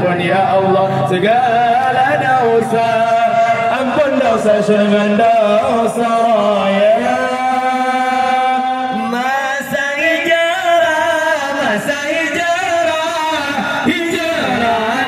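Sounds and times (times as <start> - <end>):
man chanting over loudspeakers: 0.0 - 15.0.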